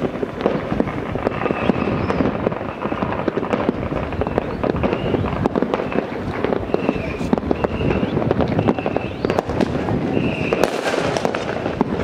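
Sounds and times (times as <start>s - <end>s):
fireworks popping and banging: 0.0s - 12.0s.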